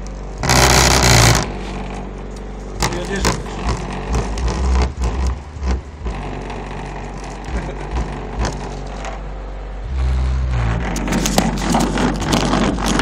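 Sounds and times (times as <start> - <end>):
deep bass from car subwoofers: 0.0 - 13.0.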